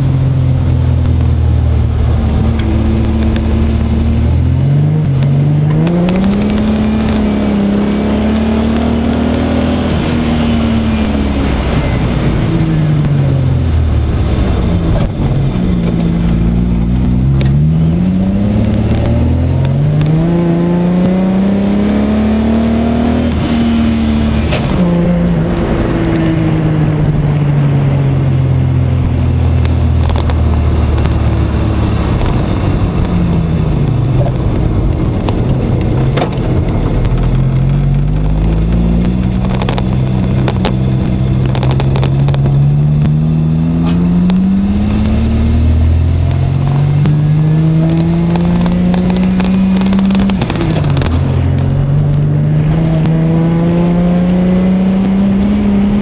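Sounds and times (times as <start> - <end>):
car engine while driving: 0.0 - 56.0.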